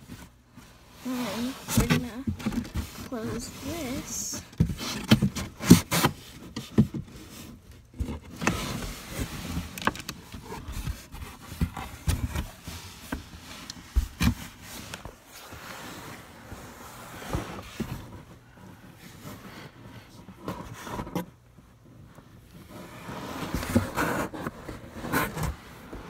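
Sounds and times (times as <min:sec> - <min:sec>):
cardboard flaps rustling: 0:00.0 - 0:21.4, 0:22.0 - 0:26.0.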